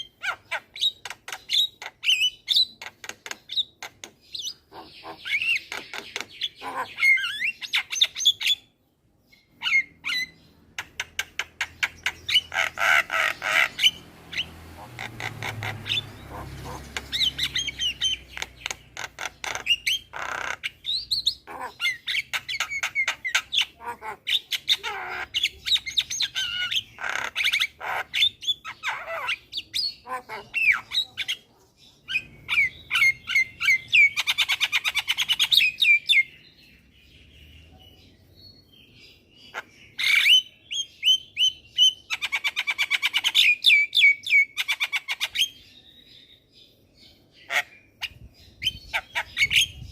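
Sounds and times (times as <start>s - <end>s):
bird singing and chattering: 0.0s - 49.9s.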